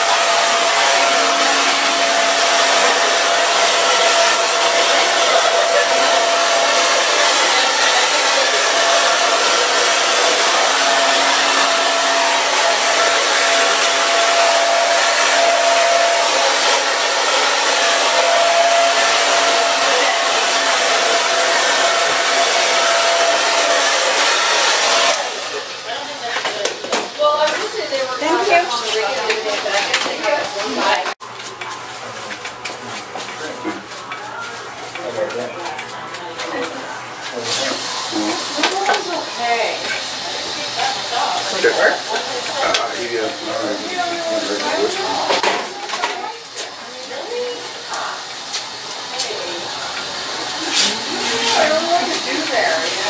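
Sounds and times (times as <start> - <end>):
hair dryer blowing: 0.0 - 31.2, 36.4 - 53.0.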